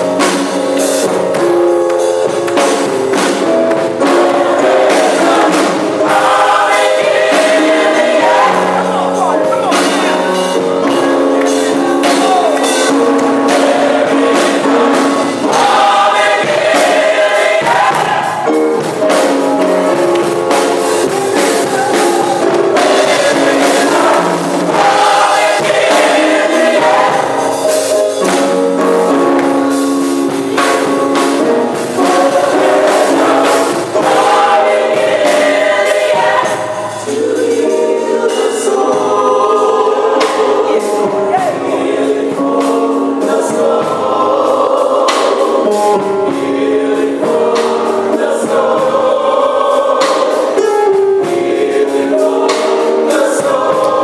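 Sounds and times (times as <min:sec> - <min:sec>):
gospel choir singing: 0:00.0 - 0:54.0
instrumental backing: 0:00.0 - 0:54.0
percussion hits: 0:00.0 - 0:54.0.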